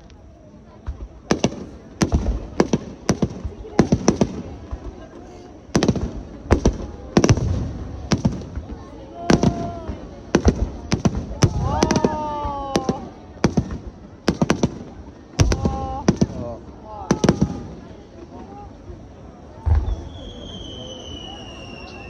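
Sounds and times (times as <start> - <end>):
fireworks bursting with sharp bangs: 0.0 - 18.8, 19.5 - 22.0.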